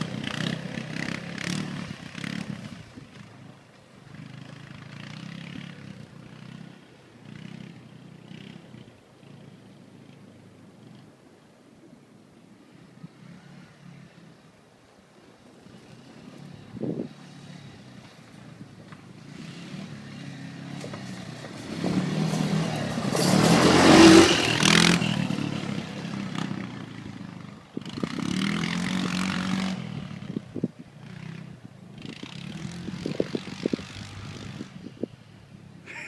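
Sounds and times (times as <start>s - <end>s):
quad bike engine passing by: 0.0s - 36.0s.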